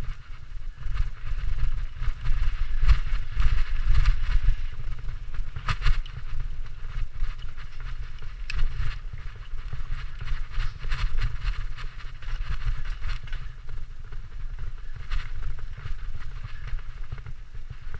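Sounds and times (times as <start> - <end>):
bike rattling and knocking: 0.0 - 17.9
wind rumbling on microphone: 0.0 - 17.9.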